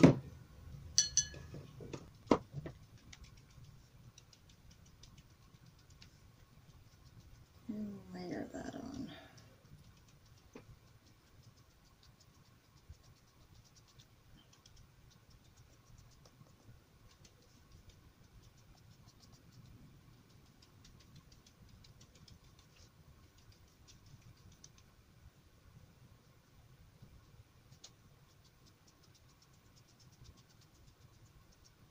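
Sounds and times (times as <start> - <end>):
low room hum: 0.0 - 31.9
paintbrush dabbing paper: 1.0 - 25.0, 27.0 - 31.9.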